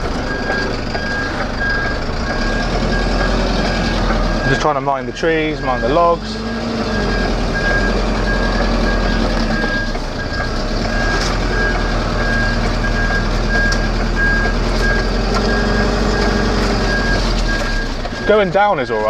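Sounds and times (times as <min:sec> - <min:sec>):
diesel engine running at low revs: 0:00.0 - 0:19.0
truck reversing alarm beeps: 0:00.0 - 0:19.0.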